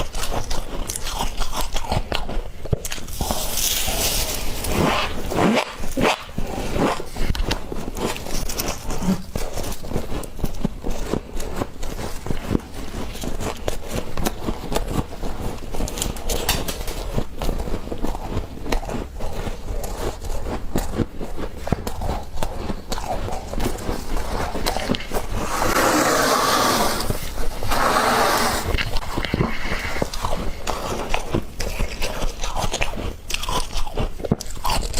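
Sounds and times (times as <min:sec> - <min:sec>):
freezer frost crunching: 0:00.0 - 0:34.9.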